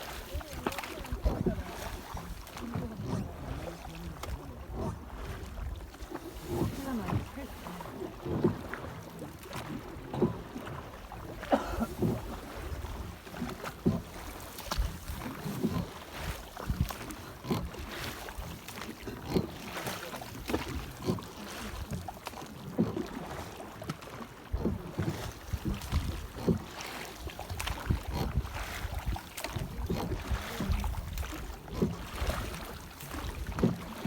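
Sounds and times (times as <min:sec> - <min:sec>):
water splashing against boat hull: 0:00.0 - 0:34.0.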